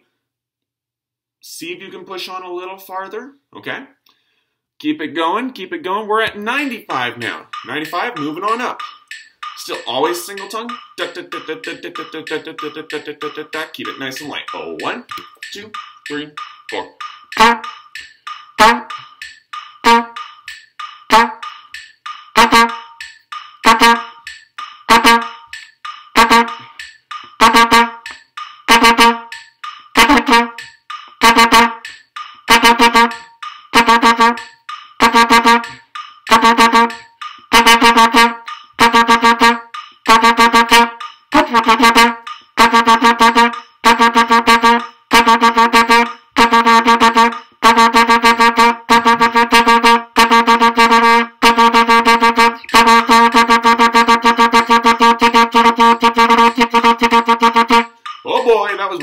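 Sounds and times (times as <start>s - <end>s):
trumpet tonguing repeated note: 6.9s - 59.0s.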